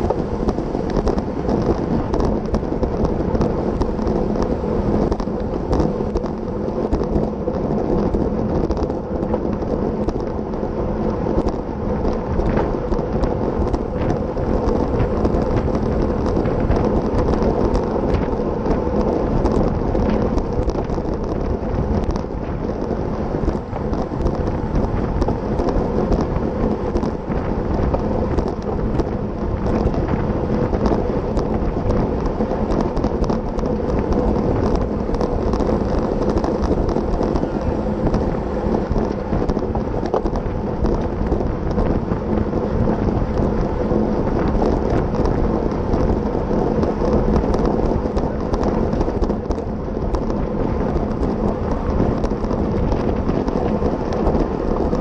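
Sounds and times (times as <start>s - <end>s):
bike rattles and clicks: 0.0s - 55.0s
tyre road noise: 0.0s - 55.0s
wind buffeting microphone: 0.0s - 55.0s.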